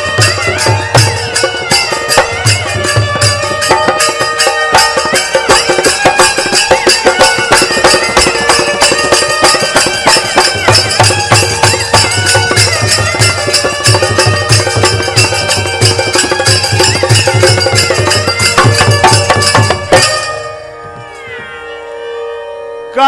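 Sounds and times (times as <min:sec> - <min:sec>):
deep drum beats: 0:00.0 - 0:21.1
fast hand drum strokes: 0:00.0 - 0:21.1
stringed instrument melody: 0:00.0 - 0:23.0.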